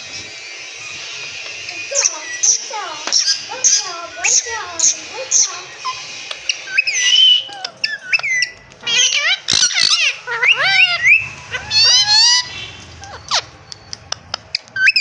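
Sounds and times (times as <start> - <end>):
parakeet calling and chattering: 0.0 - 15.0.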